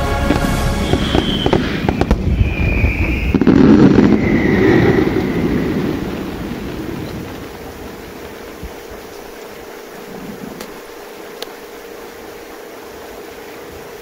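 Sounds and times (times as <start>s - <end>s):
firework shells bursting: 0.0s - 11.8s
fireworks crackling rumble: 0.0s - 14.0s.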